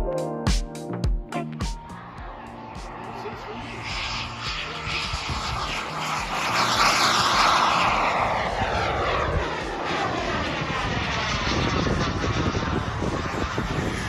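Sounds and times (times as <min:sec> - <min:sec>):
model jet engine rushing past: 0:01.8 - 0:14.0.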